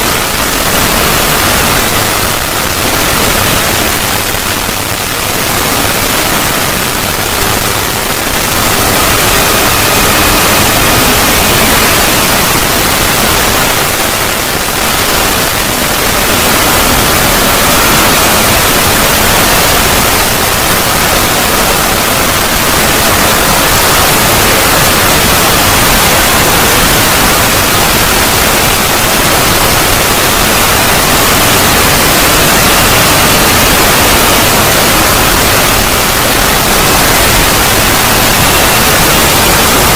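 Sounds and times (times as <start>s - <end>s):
faint high whine: 0.0s - 39.9s
static-like hiss: 0.0s - 39.9s.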